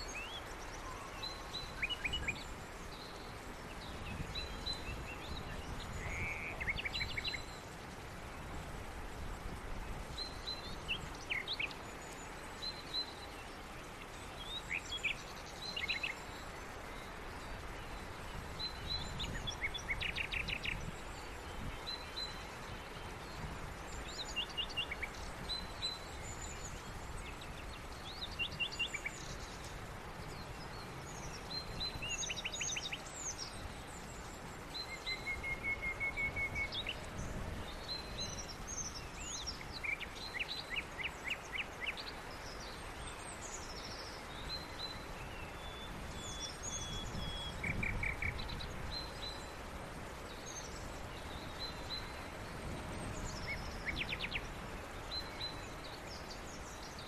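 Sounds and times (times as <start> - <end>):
birds chirping and trilling: 0.0 - 8.0, 10.0 - 57.0
background hiss: 0.0 - 57.0.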